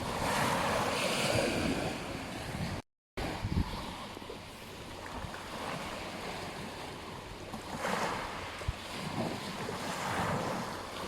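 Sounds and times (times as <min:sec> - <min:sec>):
waves washing on beach: 0:00.0 - 0:11.0
wind buffeting microphone: 0:00.0 - 0:11.0.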